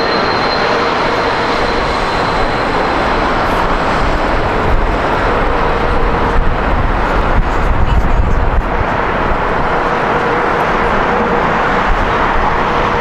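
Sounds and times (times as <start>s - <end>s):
jet airliner engines rushing: 0.0s - 13.0s.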